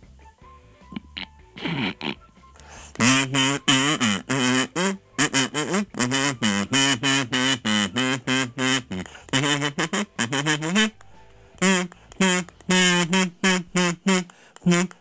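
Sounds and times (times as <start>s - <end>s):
kazoo melody: 0.0s - 15.0s.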